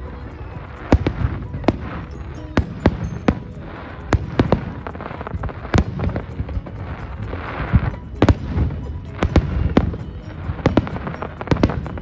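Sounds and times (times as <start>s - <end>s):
fireworks bangs: 0.4s - 12.0s.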